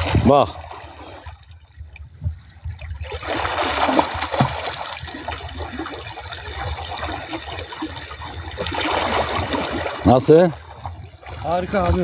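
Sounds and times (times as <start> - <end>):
rushing canal current: 0.0 - 1.5, 3.0 - 12.0
water splashing from swimming: 0.0 - 12.0.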